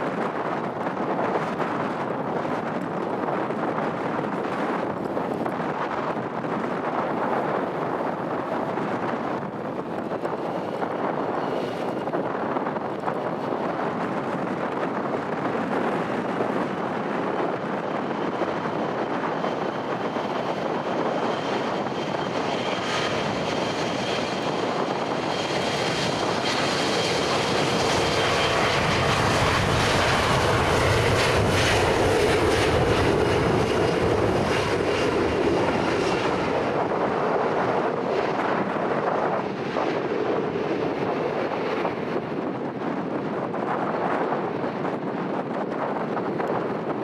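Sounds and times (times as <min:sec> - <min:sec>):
aircraft engine with high whine: 0:00.0 - 0:47.0.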